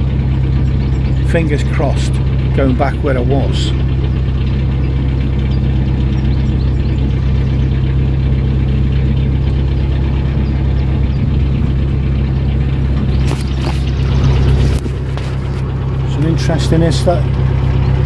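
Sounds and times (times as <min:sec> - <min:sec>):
boat diesel engine running: 0:00.0 - 0:18.0.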